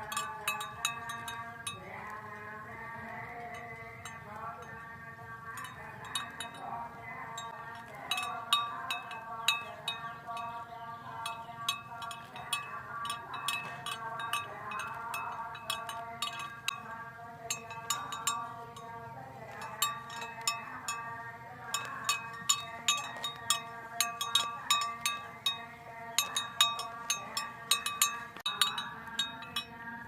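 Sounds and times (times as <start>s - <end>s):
cattle bells ringing and clanking: 0.0s - 30.0s.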